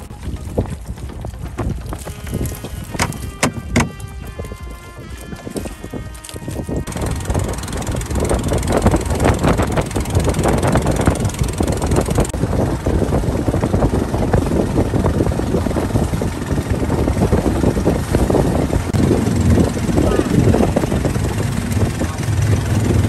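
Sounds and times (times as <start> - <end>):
boat engine running: 0.0 - 23.0
water slapping boat hull: 0.0 - 23.0
wind buffeting microphone: 0.0 - 23.0.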